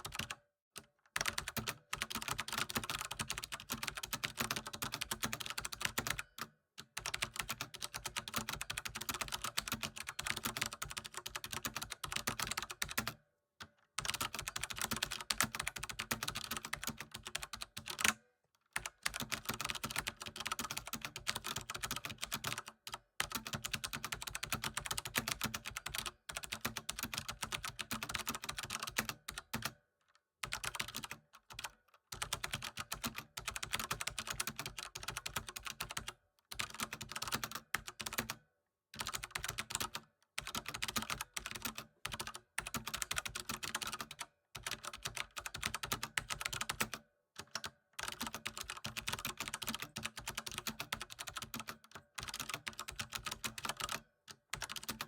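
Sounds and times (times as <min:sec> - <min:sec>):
keyboard typing: 0:00.0 - 0:00.4, 0:01.2 - 0:06.3, 0:07.0 - 0:13.2, 0:14.0 - 0:18.2, 0:18.8 - 0:29.8, 0:30.4 - 0:38.4, 0:39.0 - 0:55.0.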